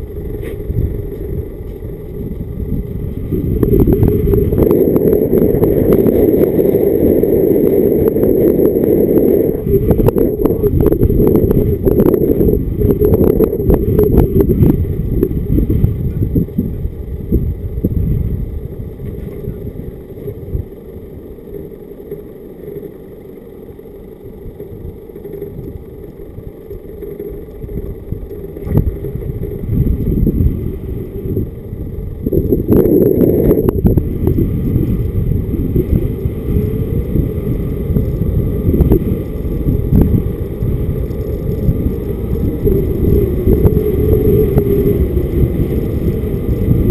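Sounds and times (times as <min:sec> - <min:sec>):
car engine: 0:00.0 - 0:46.9
wind rumbling on microphone: 0:00.0 - 0:46.9.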